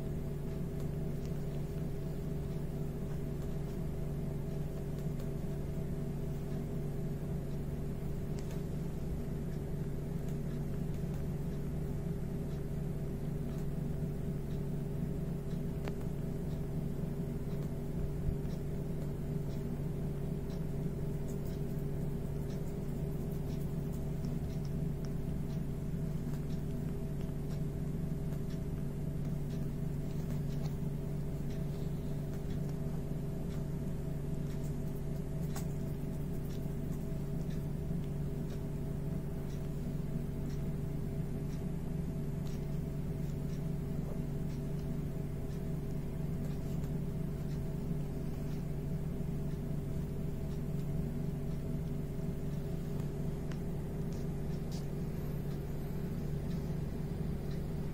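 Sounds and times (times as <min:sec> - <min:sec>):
faint light ticks: 0:00.0 - 0:57.9
steady low machine hum: 0:00.0 - 0:57.9.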